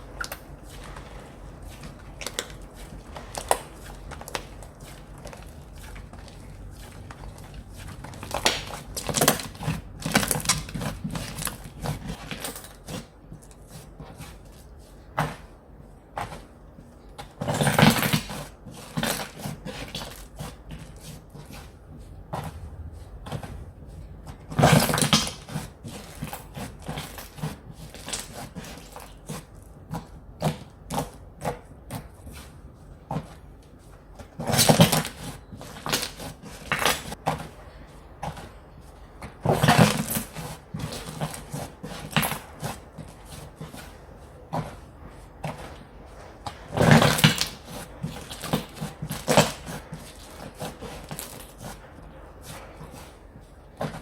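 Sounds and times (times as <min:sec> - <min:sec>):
slime squelching: 0:00.0 - 0:16.5, 0:17.2 - 0:54.0.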